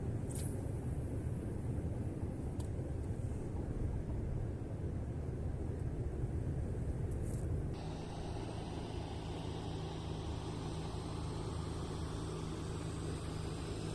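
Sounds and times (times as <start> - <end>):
low rumbling background noise: 0.0 - 13.9.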